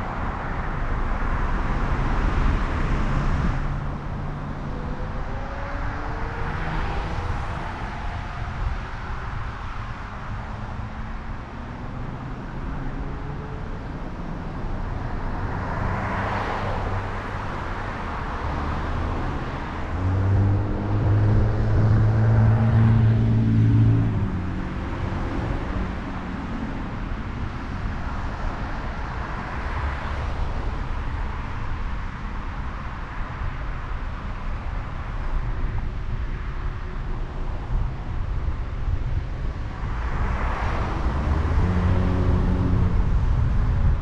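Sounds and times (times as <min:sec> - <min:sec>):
car tyre and road noise: 0:00.0 - 0:44.0
engine hum with clear pitch: 0:00.0 - 0:44.0
vehicles passing: 0:00.0 - 0:44.0.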